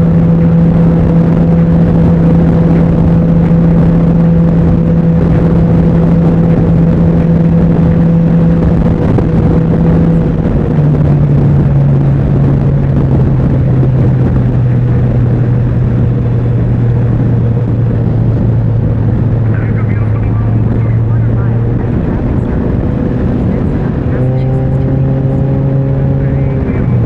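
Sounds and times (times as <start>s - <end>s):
three-wheeler engine running: 0.0s - 27.0s.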